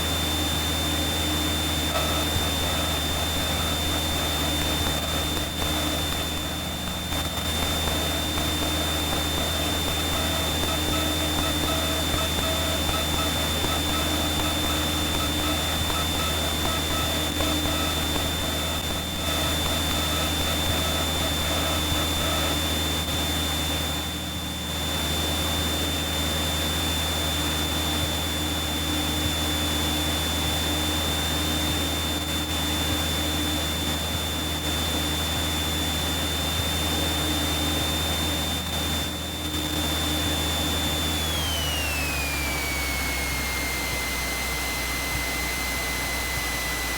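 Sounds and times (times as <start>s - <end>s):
aircraft engine and propeller droning: 0.0s - 46.9s
high whine: 0.0s - 46.9s.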